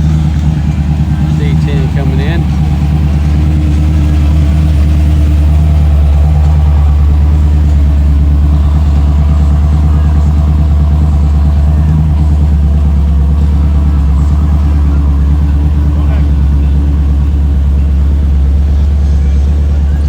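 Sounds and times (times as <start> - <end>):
pickup engine running: 0.0 - 20.0.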